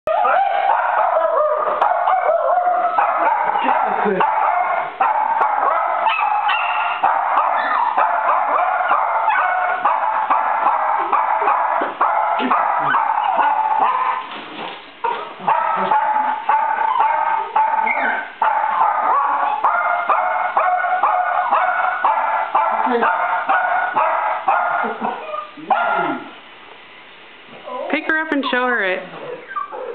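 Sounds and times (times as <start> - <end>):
small dogs barking: 0.1 - 14.4, 15.0 - 26.4, 29.2 - 29.9.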